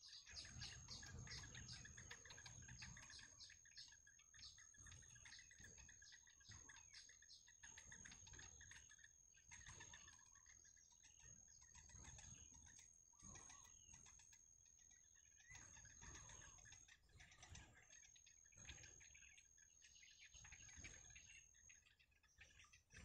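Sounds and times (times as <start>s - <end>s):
soft bird chick chirps: 0.0s - 23.0s.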